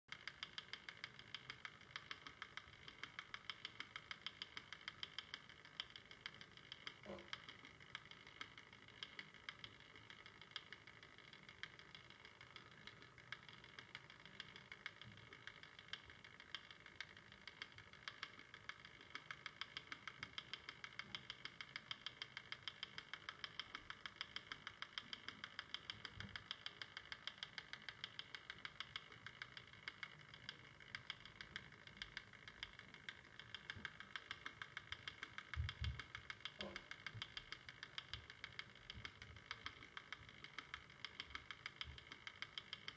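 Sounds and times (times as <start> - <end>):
turntable ticking: 0.1 - 42.9.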